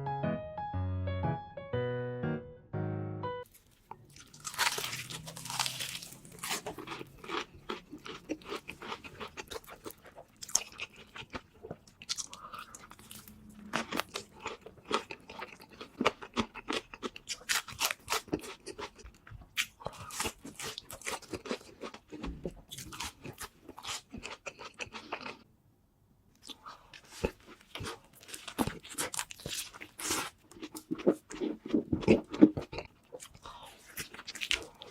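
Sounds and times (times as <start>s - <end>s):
person chewing crunchy food: 3.4s - 25.5s, 26.4s - 34.9s.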